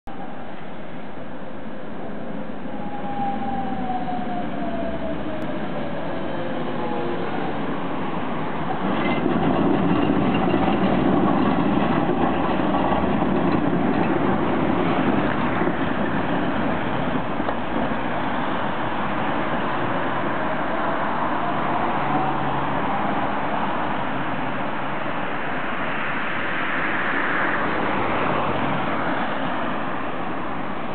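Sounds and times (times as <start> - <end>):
tram whine: 0.1 - 30.9
tram wheels rumbling on rails: 2.0 - 30.9.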